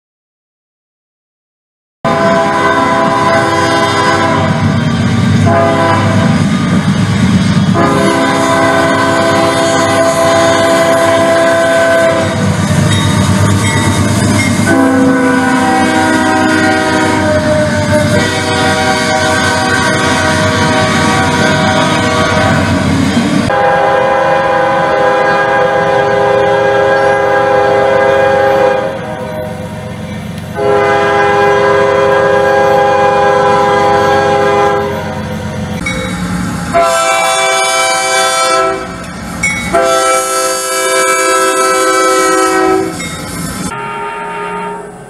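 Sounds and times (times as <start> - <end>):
locomotive horn blasts: 2.1 - 4.8, 5.4 - 6.4, 7.7 - 22.9, 23.5 - 29.8, 30.5 - 36.1, 36.7 - 39.0, 39.6 - 45.0
locomotive engine rumble: 2.1 - 45.0.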